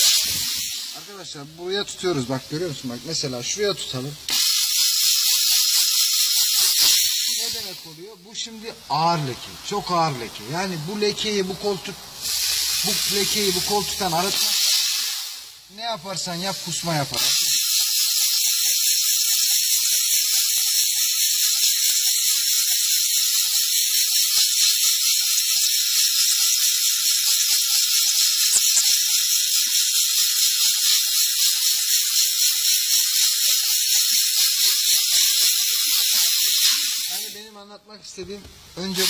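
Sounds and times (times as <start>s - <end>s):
steam jet hissing: 0.0s - 37.6s, 38.6s - 39.0s.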